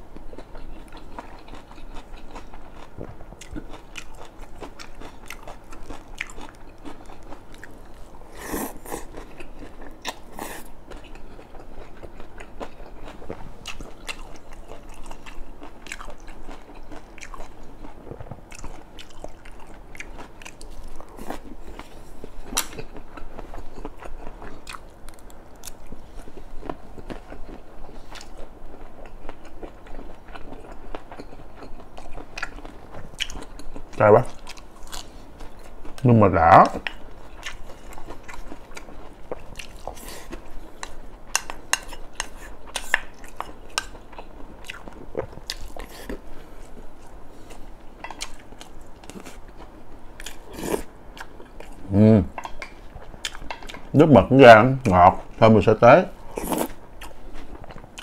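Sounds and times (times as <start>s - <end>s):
man chewing and biting food: 0.2s - 36.0s, 36.8s - 53.9s, 56.2s - 58.0s.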